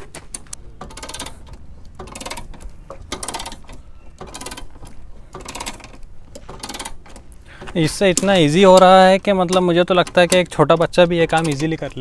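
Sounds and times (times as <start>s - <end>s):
ratchet clicks of car jack: 0.3s - 12.0s.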